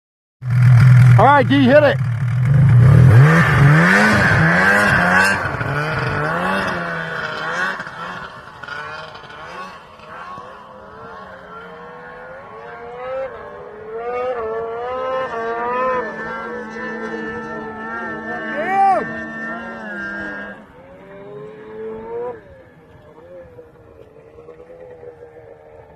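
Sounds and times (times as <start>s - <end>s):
snowmobile engine revving: 0.5s - 25.9s.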